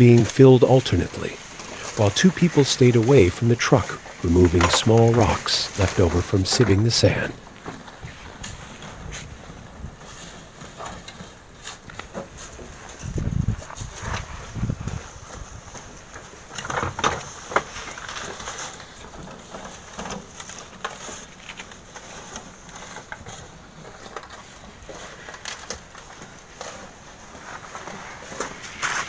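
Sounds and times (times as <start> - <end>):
crunching footsteps: 0.0 - 29.0
wheelbarrows rattling on gravel: 0.0 - 29.0.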